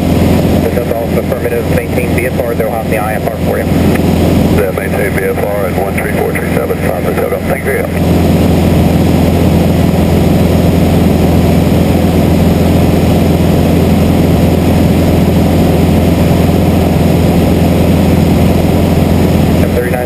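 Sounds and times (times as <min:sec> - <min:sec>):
propeller airplane engine droning: 0:00.0 - 0:20.0.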